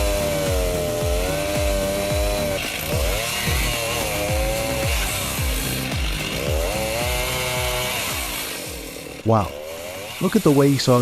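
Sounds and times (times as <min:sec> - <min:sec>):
music with thumping bass beat: 0:00.0 - 0:09.0
chainsaw cutting wood: 0:00.0 - 0:11.0.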